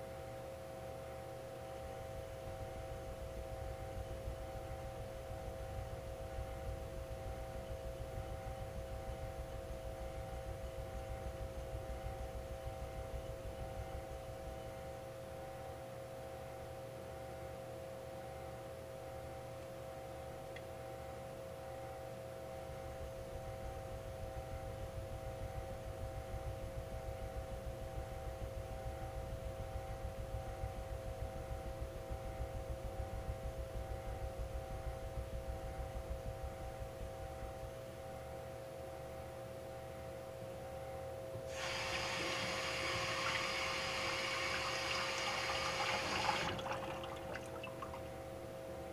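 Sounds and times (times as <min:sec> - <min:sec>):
electrical hum: 0:00.0 - 0:48.9.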